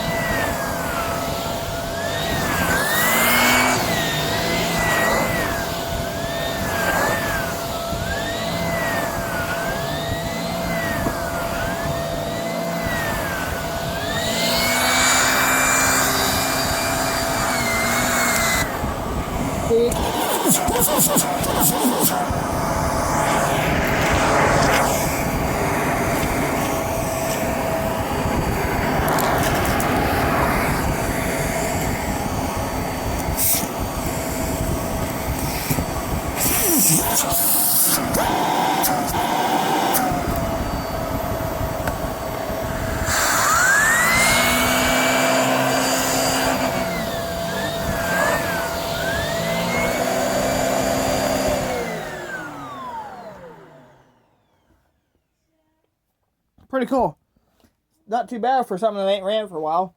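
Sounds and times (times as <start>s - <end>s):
handheld vacuum cleaner running: 0.0s - 55.0s.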